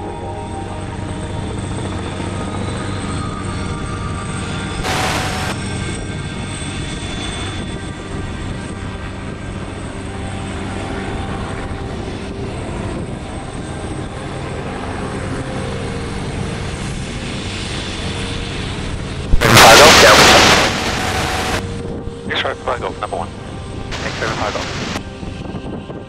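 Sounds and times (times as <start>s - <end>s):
helicopter rotor and engine noise: 0.0s - 26.0s
helicopter turbine whine: 0.0s - 26.0s.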